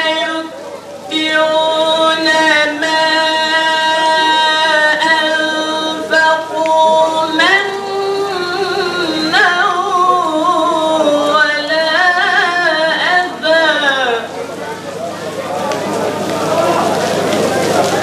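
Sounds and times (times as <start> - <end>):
man chanting recitation: 0.0 - 18.0.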